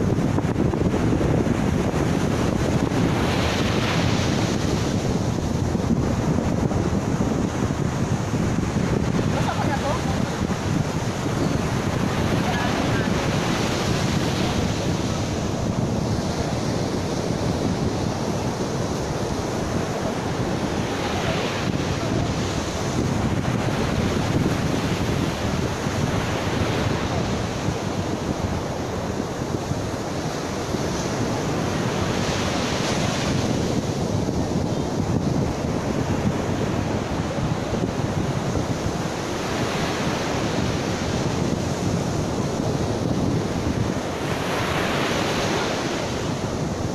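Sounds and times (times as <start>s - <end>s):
ocean surf breaking on beach: 0.0s - 46.9s
wind buffeting microphone: 0.0s - 46.9s.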